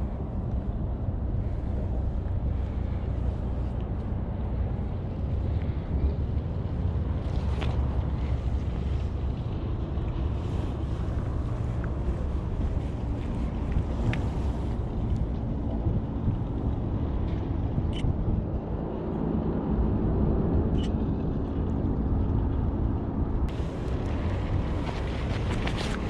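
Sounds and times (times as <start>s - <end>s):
low steady hum: 0.0s - 26.0s
wind on microphone: 0.0s - 26.0s.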